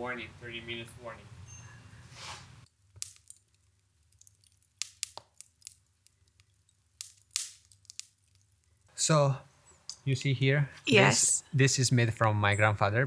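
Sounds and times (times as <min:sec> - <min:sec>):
embers crackling and popping: 0:00.4 - 0:12.9.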